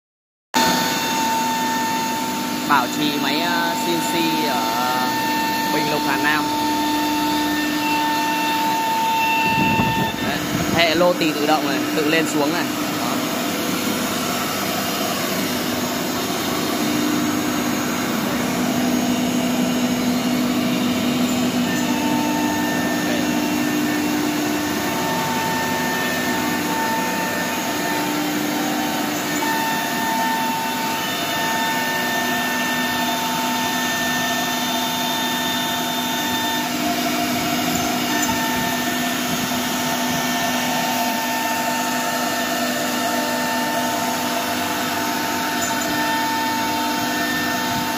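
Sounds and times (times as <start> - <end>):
router machine cutting wood: 0.6 - 47.9.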